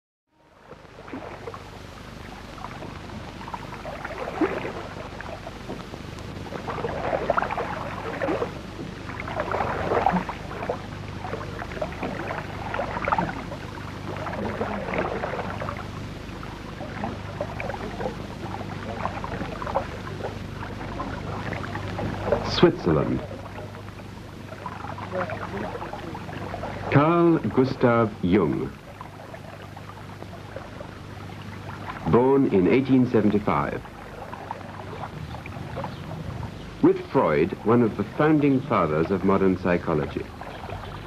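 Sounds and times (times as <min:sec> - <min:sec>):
low film soundtrack hum: 0:00.3 - 0:41.0
lake water lapping and splashing: 0:00.5 - 0:41.0.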